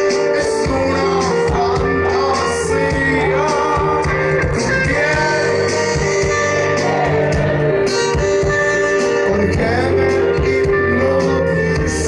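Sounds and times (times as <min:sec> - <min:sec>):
bass guitar: 0:00.0 - 0:12.0
drums: 0:00.0 - 0:12.0
electric guitar: 0:00.0 - 0:12.0
person singing: 0:00.0 - 0:12.0.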